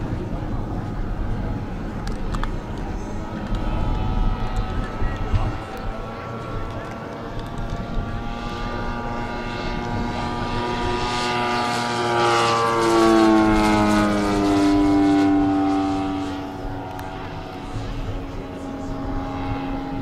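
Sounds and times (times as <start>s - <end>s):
model plane propeller hum: 0.0s - 20.0s.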